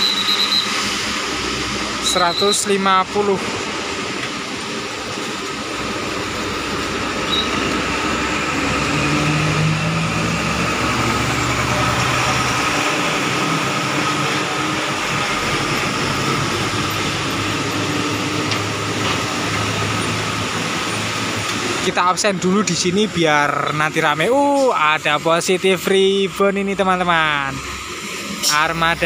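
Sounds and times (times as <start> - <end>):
bus engine running: 0.0 - 29.0
tyres hissing on wet pavement: 0.0 - 29.0.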